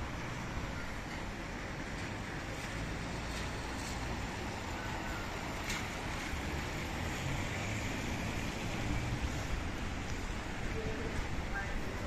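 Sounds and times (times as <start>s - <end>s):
street noise: 0.0s - 12.0s
car tyres hissing on wet road: 1.9s - 12.0s.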